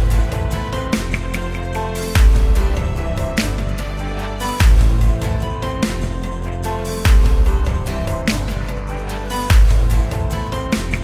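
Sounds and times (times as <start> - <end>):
electronic beat: 0.0 - 11.0.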